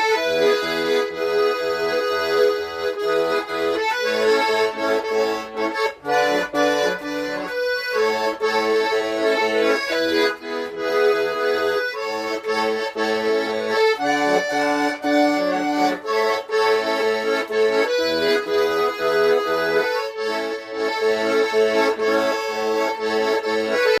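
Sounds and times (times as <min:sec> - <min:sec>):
button accordion playing a tune: 0:00.0 - 0:24.0.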